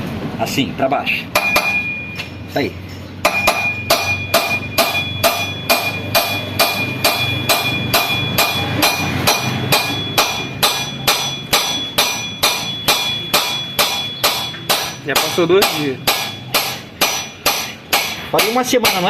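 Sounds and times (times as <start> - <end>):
hammer striking steel chisel: 1.3 - 2.2, 3.2 - 19.0.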